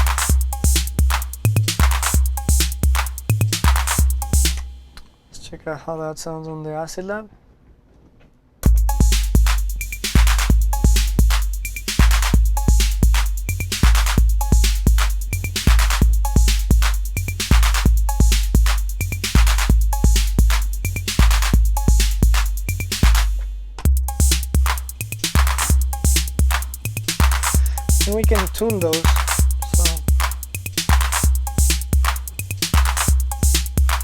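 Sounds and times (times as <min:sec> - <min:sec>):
drum machine beat: 0:00.0 - 0:04.9, 0:08.6 - 0:34.0.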